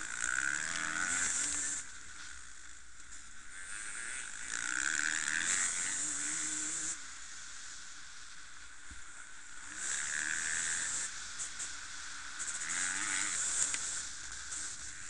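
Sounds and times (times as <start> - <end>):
dirt bike engines revving: 0.0 - 15.0
steady hiss: 0.0 - 15.0.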